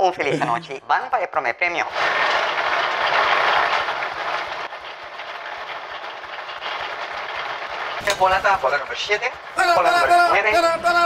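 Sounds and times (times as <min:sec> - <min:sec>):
lottery balls rattling in drum: 0:01.8 - 0:11.0.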